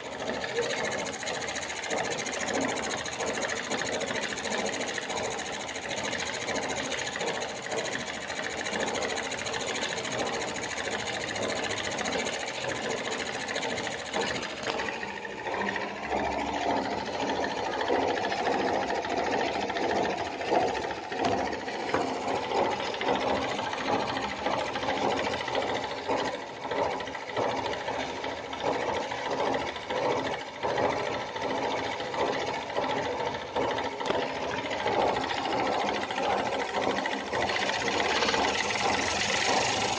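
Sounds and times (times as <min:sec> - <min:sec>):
model steam engine clattering: 0:00.0 - 0:39.9.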